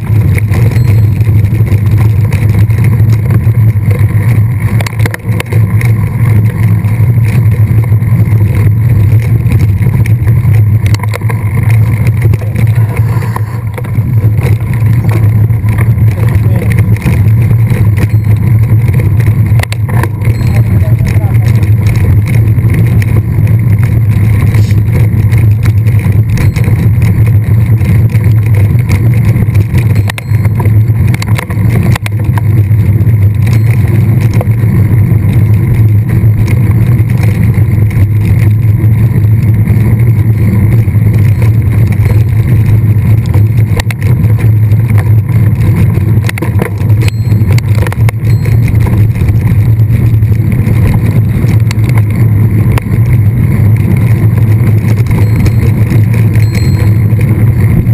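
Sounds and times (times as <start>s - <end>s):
bike riding rumble: 0.0s - 57.9s
small clicks and rattles: 0.0s - 57.9s
wind on microphone: 0.0s - 57.9s.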